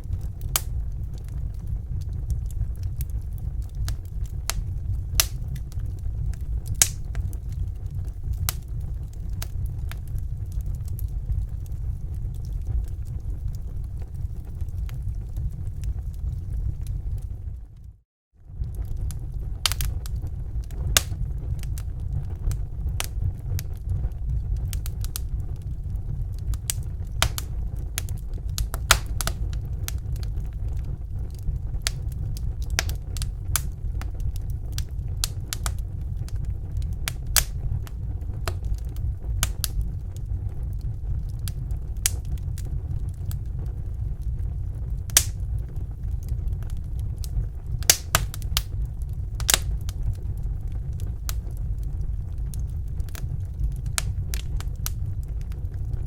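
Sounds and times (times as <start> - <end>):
fire crackling and popping: 0.0 - 56.0
low rumble: 0.0 - 56.0.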